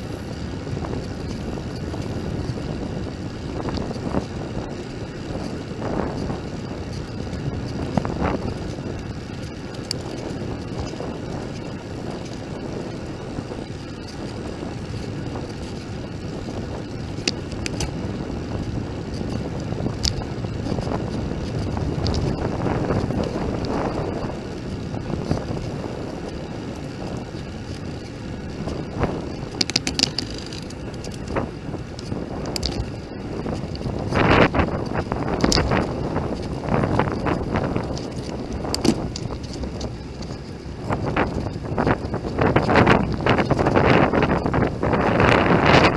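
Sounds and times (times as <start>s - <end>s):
road rumble: 0.0s - 45.9s
sharp clicks and rattles: 0.0s - 45.9s
wind buffeting microphone: 0.0s - 45.9s.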